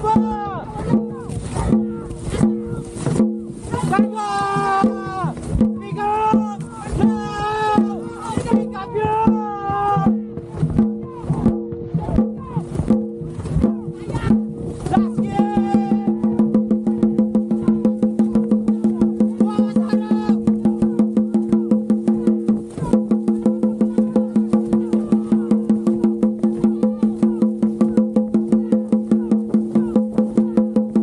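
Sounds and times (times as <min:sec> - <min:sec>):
fast clacking beat: 0:00.0 - 0:31.0.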